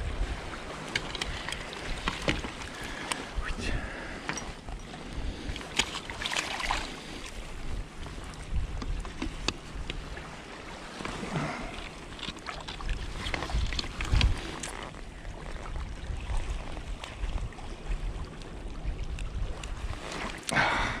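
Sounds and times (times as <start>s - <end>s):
water sloshing: 0.0s - 21.0s
wind rumble on microphone: 0.0s - 21.0s
small clicks and splashes: 0.7s - 3.3s, 4.2s - 7.4s, 8.0s - 20.6s.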